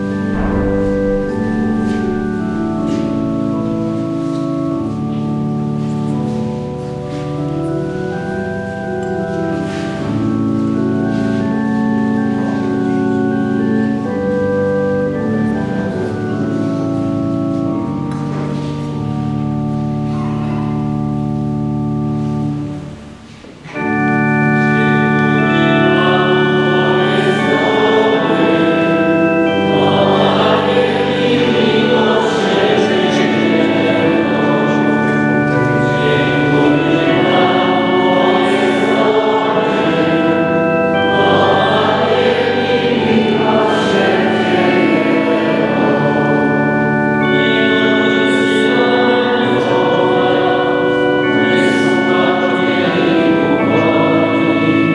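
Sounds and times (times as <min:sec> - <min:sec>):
pipe organ chords: 0:00.0 - 0:54.9
voices singing a hymn: 0:00.0 - 0:54.9.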